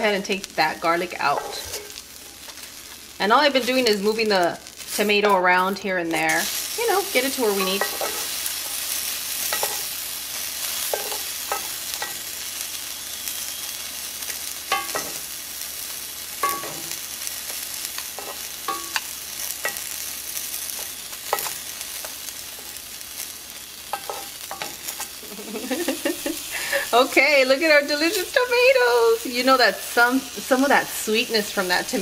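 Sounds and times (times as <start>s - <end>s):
garlic and tomatoes sizzling in skillet: 0.0s - 32.0s.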